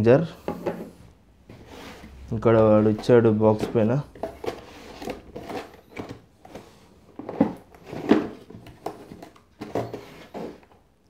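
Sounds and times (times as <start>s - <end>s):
cardboard box rustling and scraping: 1.5s - 10.8s.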